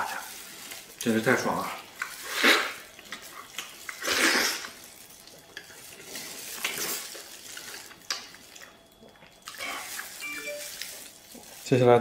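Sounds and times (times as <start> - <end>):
wet chewing and sucking: 1.9 - 11.6.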